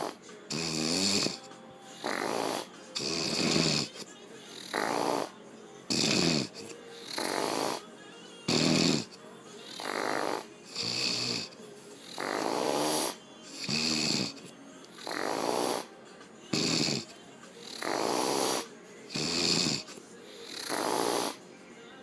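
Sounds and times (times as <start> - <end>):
woman snoring: 0.0 - 7.9, 8.5 - 21.4.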